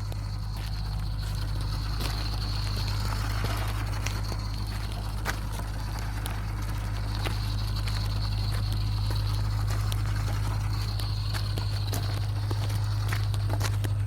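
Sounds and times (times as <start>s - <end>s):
rc truck motor whine: 0.0s - 14.0s
tyres crackling on rough ground: 0.0s - 14.0s.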